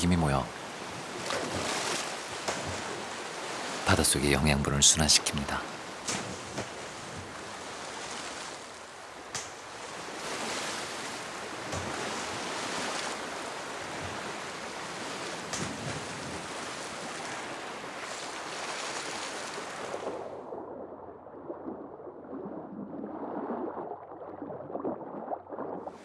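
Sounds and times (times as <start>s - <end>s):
sea water washing: 0.0s - 26.0s.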